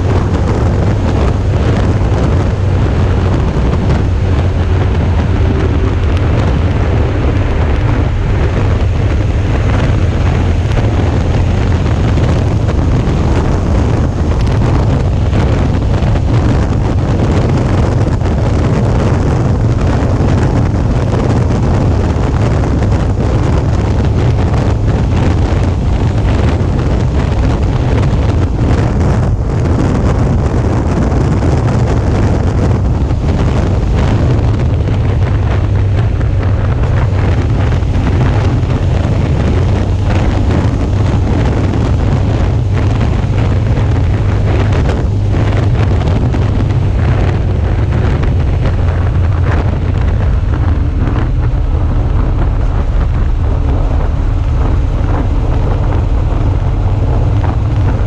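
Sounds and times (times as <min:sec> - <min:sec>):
motorcycle engine rumble: 0:00.0 - 0:58.0
wind buffeting microphone: 0:00.0 - 0:58.0.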